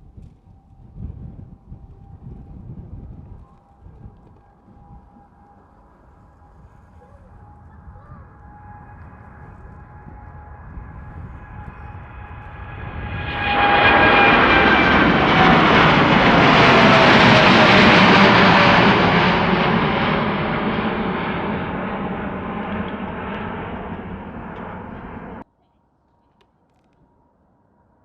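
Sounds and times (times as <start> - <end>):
jet airliner taking off: 1.0 - 25.4.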